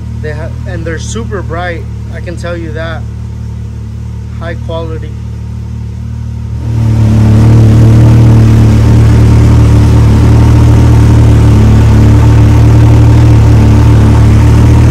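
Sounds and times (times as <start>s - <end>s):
turbocharged engine running loud: 0.0s - 14.9s.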